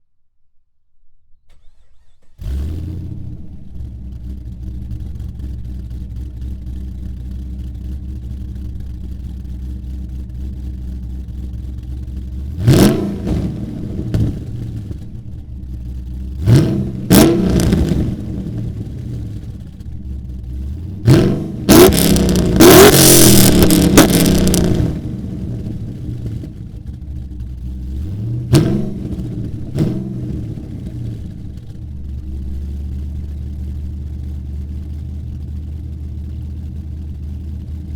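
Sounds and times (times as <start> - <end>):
car engine idling and revving: 1.5 - 37.9.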